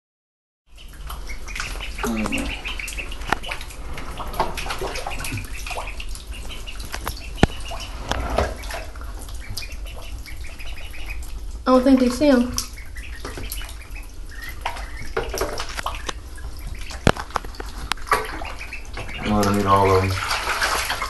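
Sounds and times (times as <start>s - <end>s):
ducklings peeping: 0.7s - 21.0s
water splashing in bathtub: 0.8s - 21.0s.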